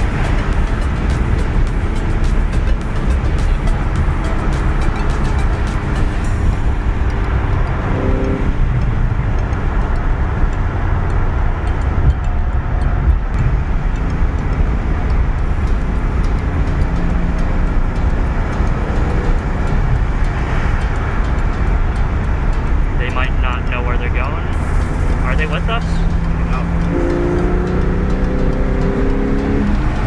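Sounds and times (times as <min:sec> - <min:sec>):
car engine running: 0:00.0 - 0:30.0
road and tyre rumble: 0:00.0 - 0:30.0.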